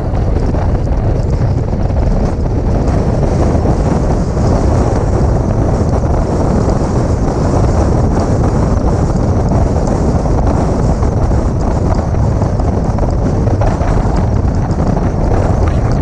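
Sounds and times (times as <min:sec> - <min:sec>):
car driving noise: 0:00.0 - 0:16.0
wind buffeting microphone: 0:00.0 - 0:16.0.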